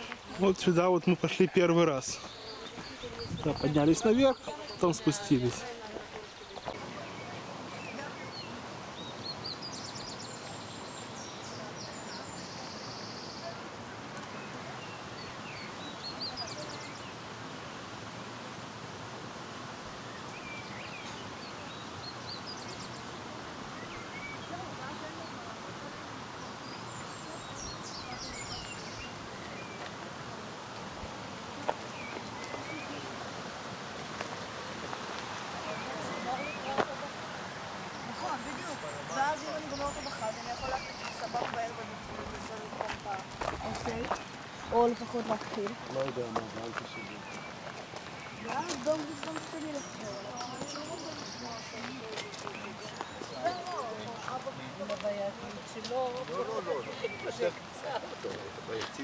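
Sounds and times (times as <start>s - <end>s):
small birds chirping: 0.0s - 17.8s, 19.9s - 59.0s
steady rushing hiss: 0.0s - 51.7s.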